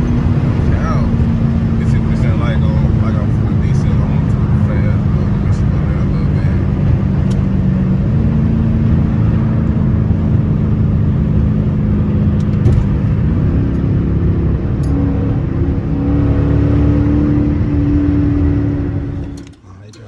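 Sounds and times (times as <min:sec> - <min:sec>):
car exhaust droning: 0:00.0 - 0:20.0.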